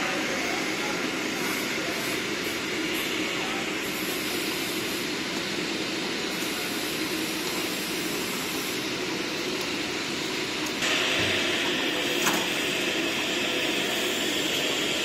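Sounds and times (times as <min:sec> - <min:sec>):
production machine running: 0:00.0 - 0:15.0.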